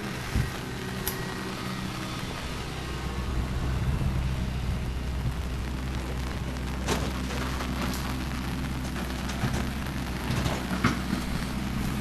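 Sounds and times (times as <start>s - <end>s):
engine idling: 0.0s - 12.0s
rain hiss: 0.0s - 12.0s.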